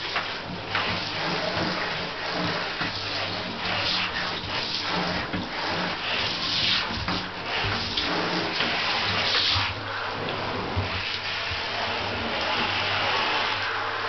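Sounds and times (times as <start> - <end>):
water running into bathtub: 0.0 - 14.0.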